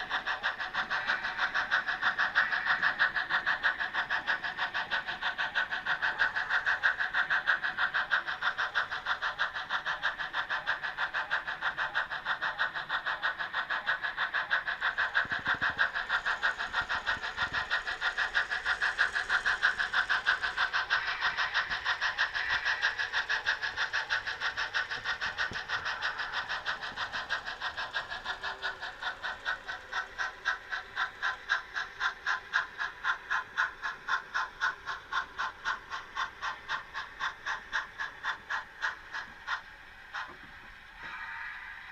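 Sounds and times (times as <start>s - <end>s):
model locomotive rhythmic beat: 0.0s - 41.9s.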